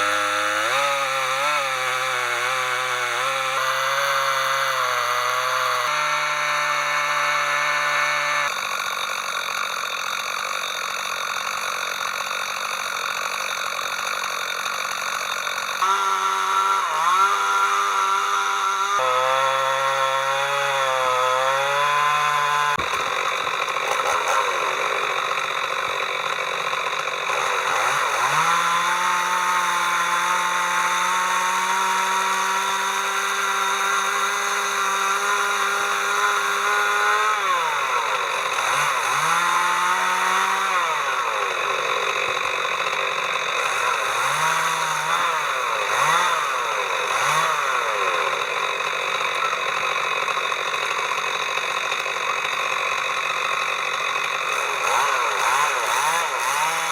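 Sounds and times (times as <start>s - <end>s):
chainsaw revving: 0.0s - 56.9s.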